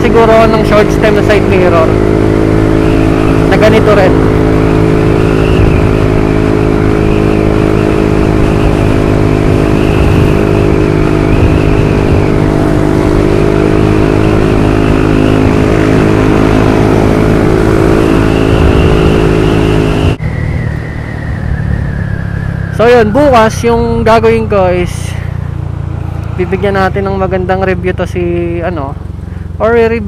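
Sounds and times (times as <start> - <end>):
scooter engine running: 0.0 - 30.0.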